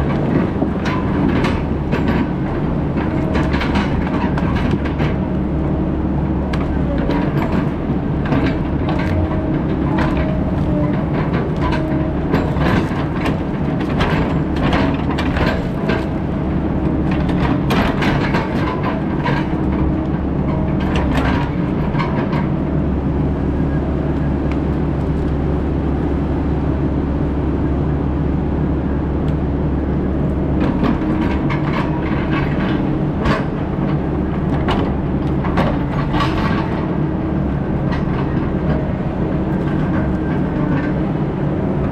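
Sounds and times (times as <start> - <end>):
heavy diesel machine running: 0.0 - 41.9.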